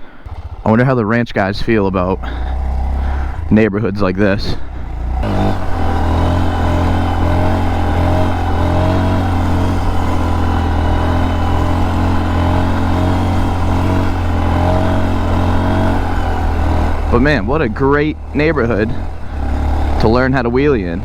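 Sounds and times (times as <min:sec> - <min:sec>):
motorcycle engine cruising: 0:00.0 - 0:21.0.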